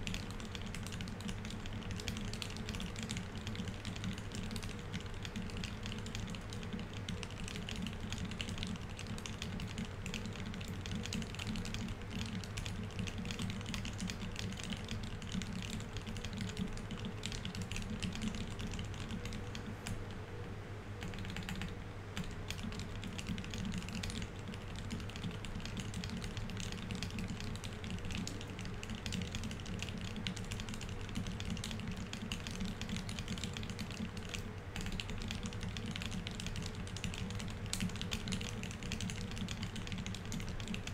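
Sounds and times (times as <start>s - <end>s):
mechanical keyboard fast typing: 0.0s - 20.1s, 21.0s - 40.9s.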